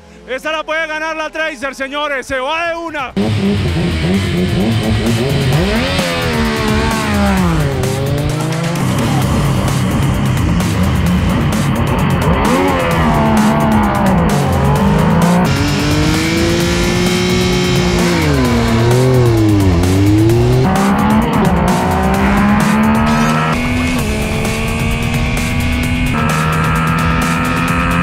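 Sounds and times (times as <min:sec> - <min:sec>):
motorcycle engines accelerating hard: 0:03.1 - 0:28.0.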